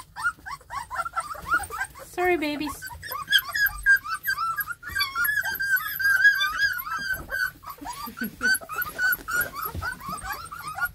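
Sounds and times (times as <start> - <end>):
puppies whining and squealing: 0.0 - 10.9
puppy grunts: 0.0 - 10.9.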